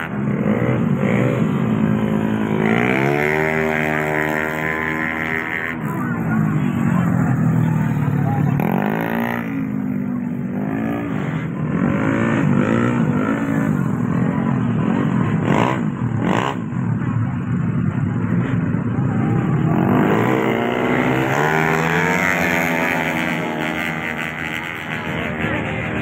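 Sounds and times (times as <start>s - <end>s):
motorcycles revving past: 0.0s - 17.1s, 18.0s - 26.0s.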